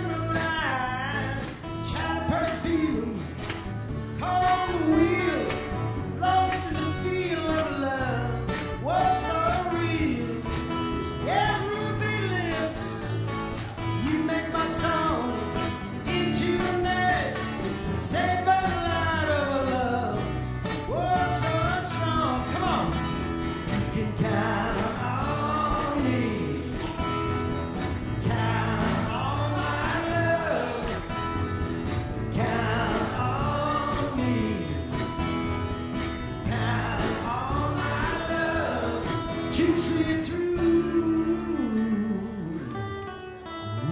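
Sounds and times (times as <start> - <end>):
man singing: 0.0 - 3.4, 4.0 - 31.6, 32.2 - 35.5, 36.4 - 43.0, 43.6 - 43.9
plucked upright bass: 0.0 - 43.0
acoustic guitars strummed: 0.0 - 43.9.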